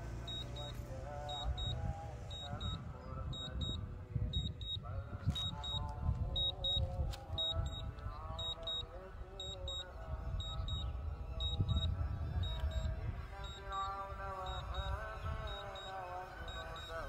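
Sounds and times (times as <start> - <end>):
high electronic double beep: 0.3 - 3.8, 4.4 - 5.8, 6.4 - 6.8, 7.4 - 9.8, 10.4 - 17.0.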